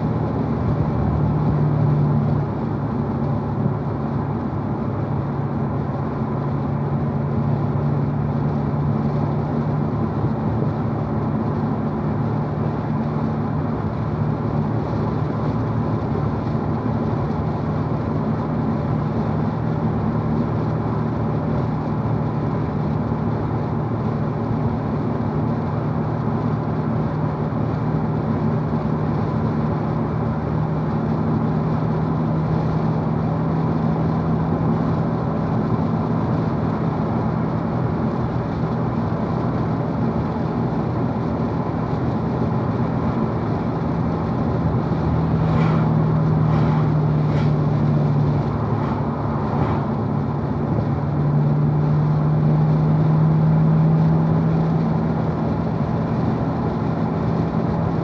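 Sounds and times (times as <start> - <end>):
car engine drone in cabin: 0.0 - 58.0
road and tyre noise: 0.0 - 58.0.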